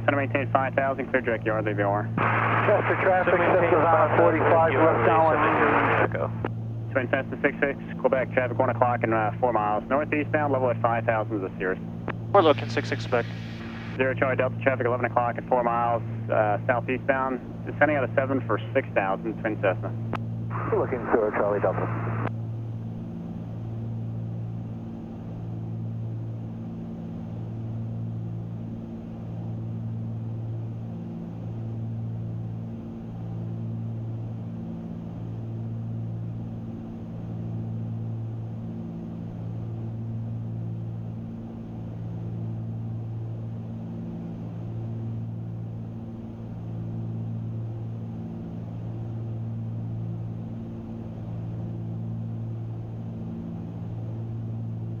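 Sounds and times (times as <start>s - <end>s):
aircraft engines droning in cabin: 0.0s - 55.0s.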